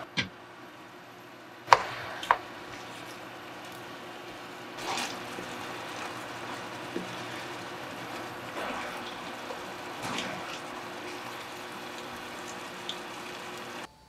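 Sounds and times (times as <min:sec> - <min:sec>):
food sizzling in a frying pan: 0:00.8 - 0:13.9
wooden spatula scraping: 0:01.7 - 0:13.9.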